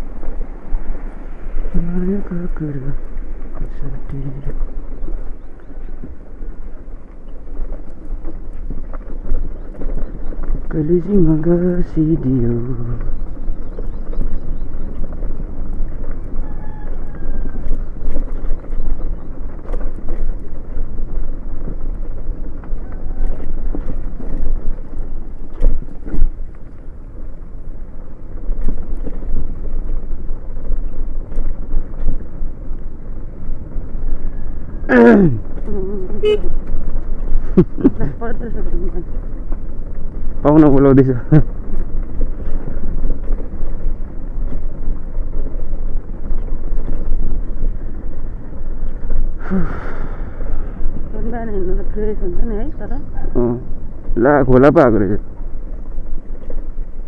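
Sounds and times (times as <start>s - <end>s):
motorcycle low rumble: 0.0s - 57.0s
wind buffeting microphone: 0.0s - 57.0s.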